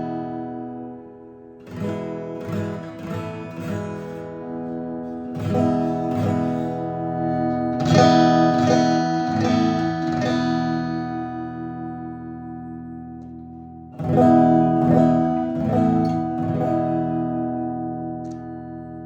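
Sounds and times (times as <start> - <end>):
acoustic guitar chords strummed: 0.0 - 19.0.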